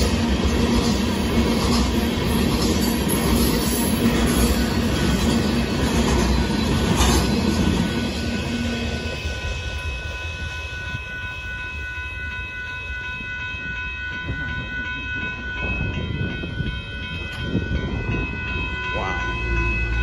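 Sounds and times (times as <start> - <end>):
crossing warning bell ringing: 0.0 - 20.0
freight train rumble: 0.0 - 20.0.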